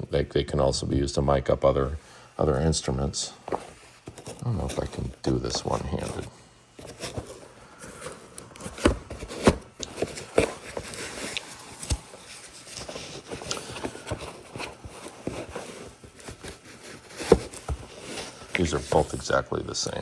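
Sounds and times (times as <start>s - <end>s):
rustling and scraping packaging: 2.9s - 20.0s.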